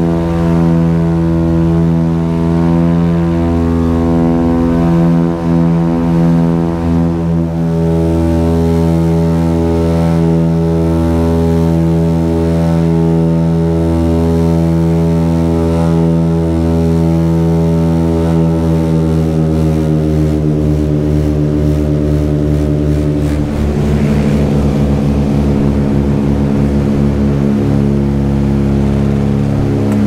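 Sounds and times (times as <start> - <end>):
propeller plane engines droning: 0.0 - 30.0.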